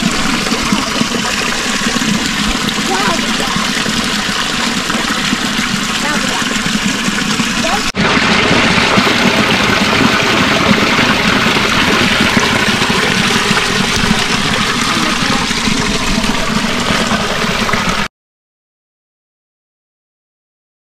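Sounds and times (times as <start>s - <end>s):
water splashing into stone basin: 0.0s - 18.1s.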